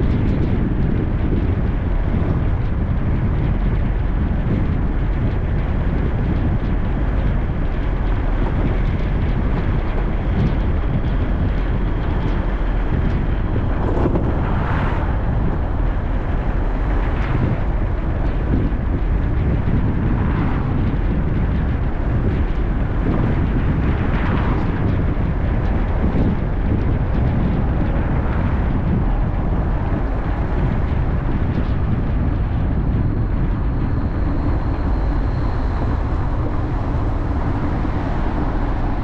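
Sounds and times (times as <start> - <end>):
car road noise: 0.0 - 39.0
wind on microphone: 0.0 - 39.0.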